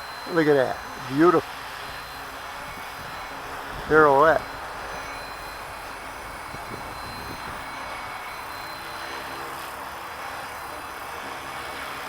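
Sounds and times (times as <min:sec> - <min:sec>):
rc helicopter whine: 0:00.0 - 0:12.0.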